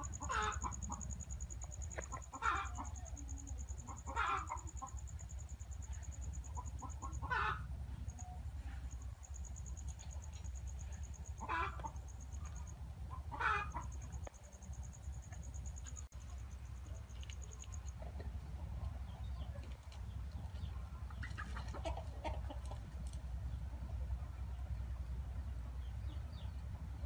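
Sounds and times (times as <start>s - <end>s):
chickens clucking: 0.0s - 24.8s
low steady rumble: 0.0s - 27.0s.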